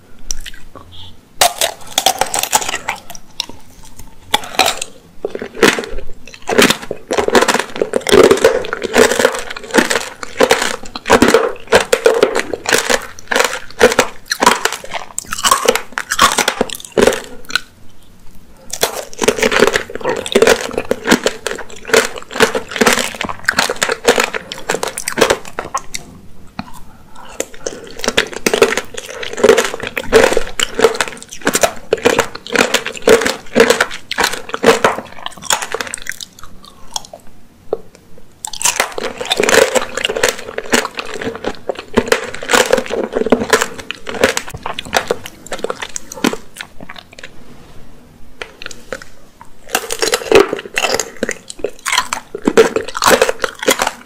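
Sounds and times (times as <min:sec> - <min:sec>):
candied fruit crunching: 0:00.2 - 0:47.4, 0:48.3 - 0:54.0
chewing soft fruit: 0:00.2 - 0:47.4, 0:48.4 - 0:54.0.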